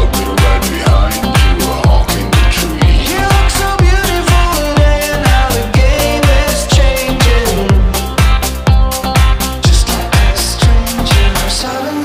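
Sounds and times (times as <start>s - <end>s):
dance music with steady beat: 0.0s - 12.0s.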